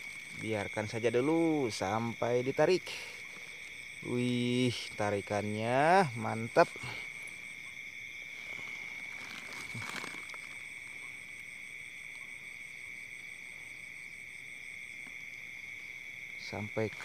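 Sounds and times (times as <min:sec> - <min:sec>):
frogs calling: 0:00.0 - 0:17.0
insects trilling: 0:00.0 - 0:17.0.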